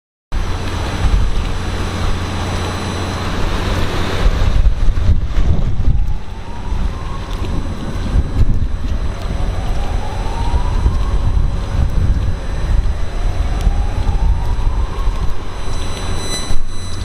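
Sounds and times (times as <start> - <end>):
faint rising siren: 0.4 - 17.0
wind buffeting microphone: 0.4 - 17.0.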